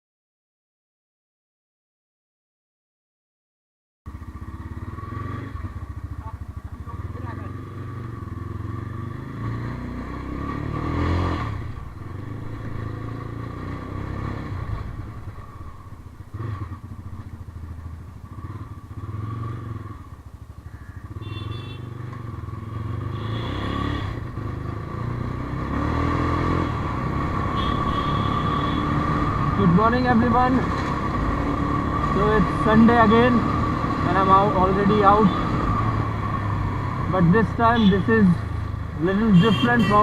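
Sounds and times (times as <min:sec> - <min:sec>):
motorcycle engine running: 0:04.1 - 0:40.0.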